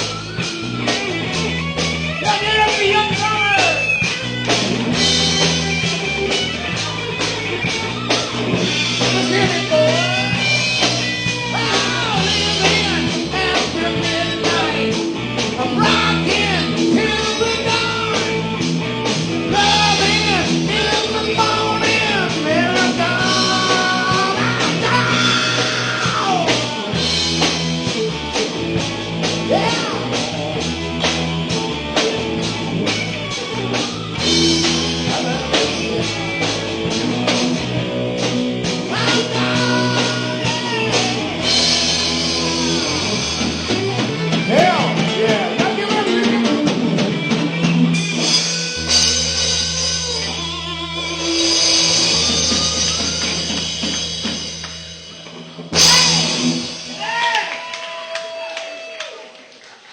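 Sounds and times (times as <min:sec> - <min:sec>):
electric guitar lead line: 0:00.0 - 0:57.8
drums keeping a steady beat: 0:00.0 - 0:58.6
bass guitar: 0:00.0 - 0:59.2.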